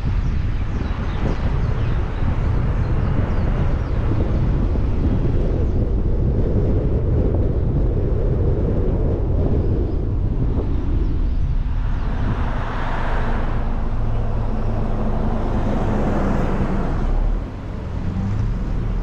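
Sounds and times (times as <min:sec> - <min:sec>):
road and wind rumble: 0:00.0 - 0:19.0
wind buffeting microphone: 0:00.0 - 0:19.0.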